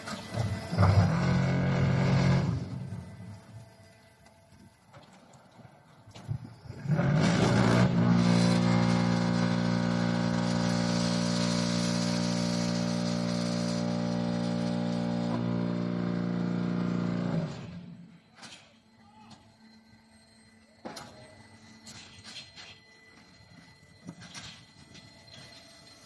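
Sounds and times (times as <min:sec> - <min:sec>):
block making machine humming: 0:00.0 - 0:26.0.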